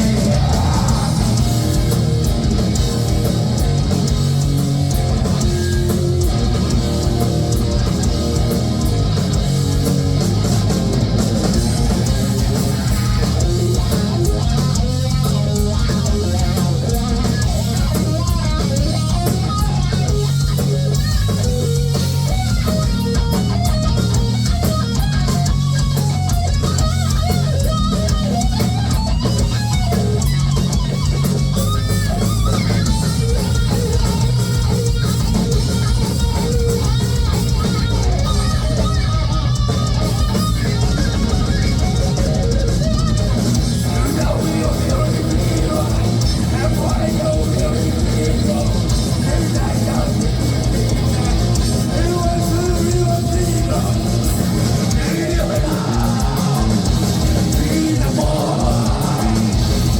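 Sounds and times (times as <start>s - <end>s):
bass guitar: 0.0s - 59.9s
distorted electric guitars: 0.0s - 59.9s
steady drum beat: 0.0s - 59.9s.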